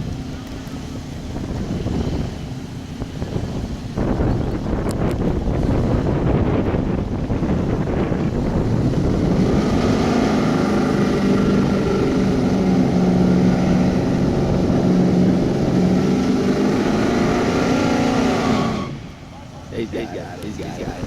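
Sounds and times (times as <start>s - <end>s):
vehicle engine running hard: 0.0s - 21.0s
wind rumbling on microphone: 0.0s - 21.0s.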